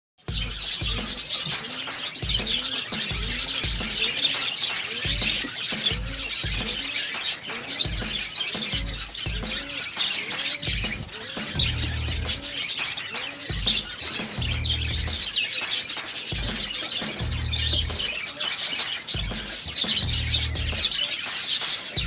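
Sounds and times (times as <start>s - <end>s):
music with steady low beat: 0.2s - 7.1s, 7.8s - 12.6s, 13.3s - 15.4s, 16.2s - 18.3s, 19.1s - 21.1s
birds chirping: 0.2s - 22.0s.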